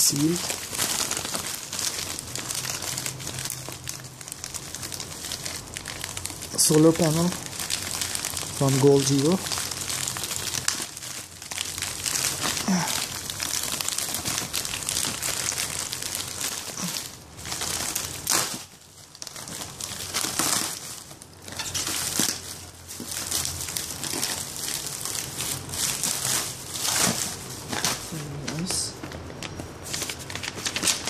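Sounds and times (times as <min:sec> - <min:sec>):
bag tearing: 0:00.0 - 0:31.0
plastic mailer crinkling: 0:00.0 - 0:31.0.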